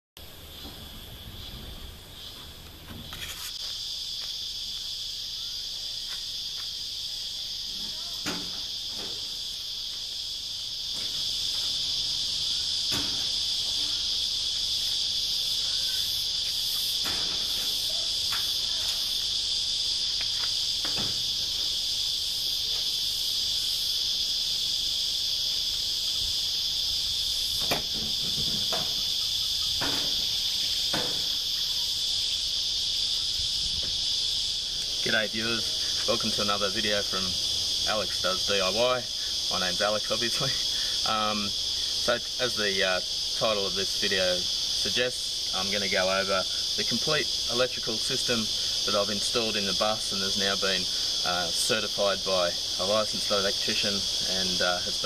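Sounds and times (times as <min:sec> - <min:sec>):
high-pitched insect chorus: 0:00.2 - 0:55.0.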